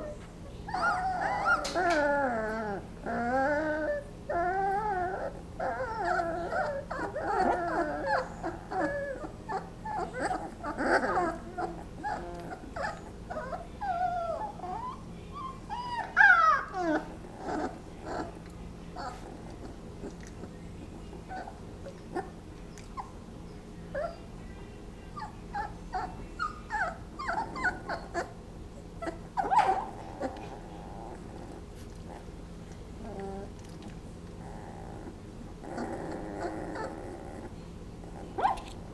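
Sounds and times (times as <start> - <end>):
puppies whimpering and whining: 0.0 - 24.4, 25.1 - 38.9.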